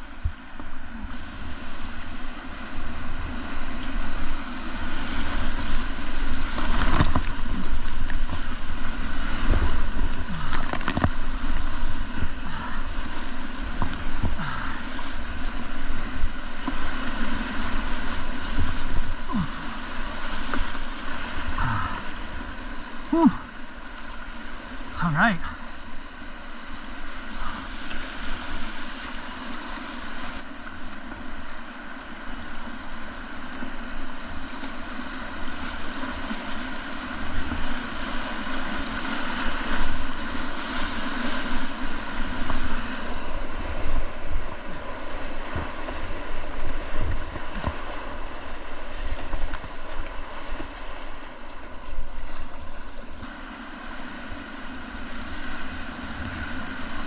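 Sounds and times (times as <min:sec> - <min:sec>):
wind rumbling on microphone: 0:00.0 - 0:24.9, 0:25.7 - 0:57.0
whitewater rushing: 0:00.0 - 0:30.5, 0:33.0 - 0:57.0.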